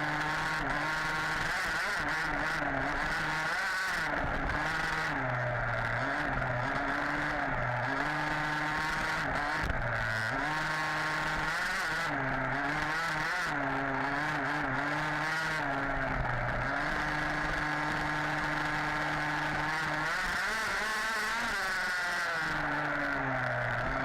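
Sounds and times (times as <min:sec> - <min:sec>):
clatter: 0:00.0 - 0:24.0
two-stroke engine revving: 0:00.0 - 0:24.0.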